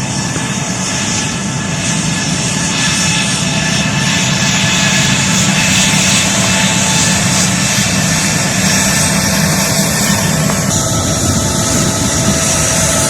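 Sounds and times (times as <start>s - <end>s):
jet engines roaring: 0.0s - 13.0s
whining engine tones: 0.0s - 13.0s.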